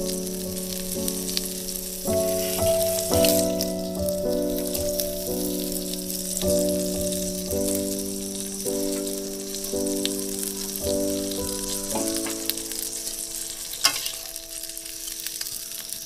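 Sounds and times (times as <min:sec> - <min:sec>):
background music of chords: 0:00.0 - 0:15.4
fish sizzling in oil: 0:00.0 - 0:16.0.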